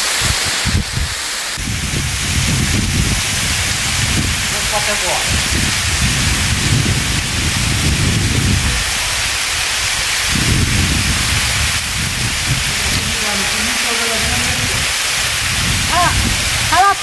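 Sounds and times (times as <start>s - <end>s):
waterfall hiss: 0.0s - 17.0s
low rumbling: 0.7s - 16.8s.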